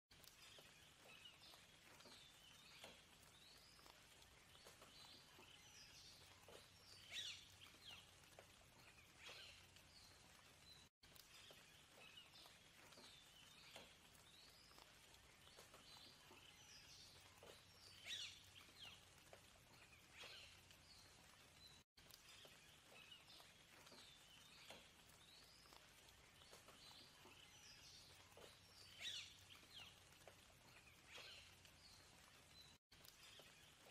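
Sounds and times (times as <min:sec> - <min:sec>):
soft steady hiss: 0:00.1 - 0:33.9
birds chirping and trilling: 0:00.2 - 0:33.9.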